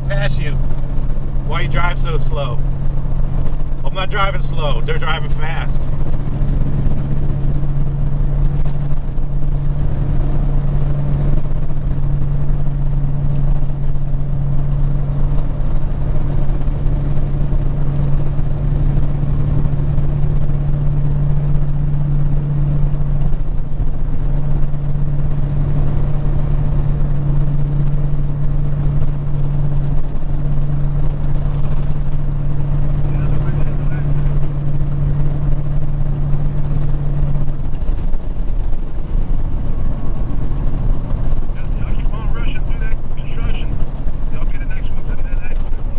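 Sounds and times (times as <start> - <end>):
truck diesel engine at highway speed: 0.0 - 45.9.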